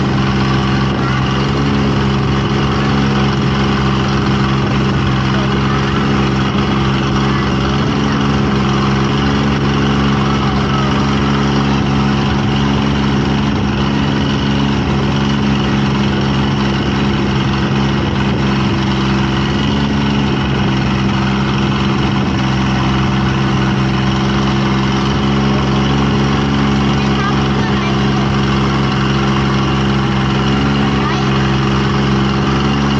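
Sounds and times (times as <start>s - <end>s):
engine humming steadily: 0.0s - 32.9s.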